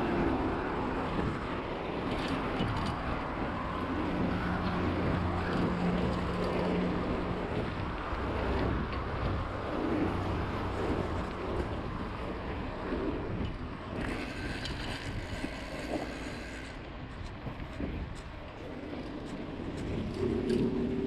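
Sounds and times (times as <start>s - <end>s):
road noise: 0.0s - 21.0s
wind buffeting microphone: 0.0s - 21.0s.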